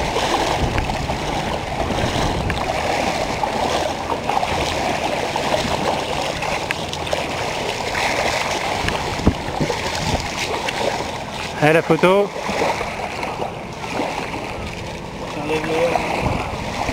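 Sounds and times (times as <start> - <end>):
sea water rushing: 0.0 - 16.9.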